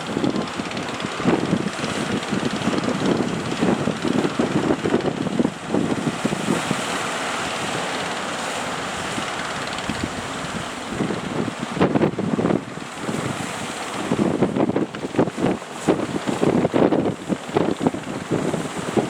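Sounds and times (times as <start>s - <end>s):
steady wind rushing: 0.0s - 19.0s
wind buffeting microphone: 0.0s - 19.0s.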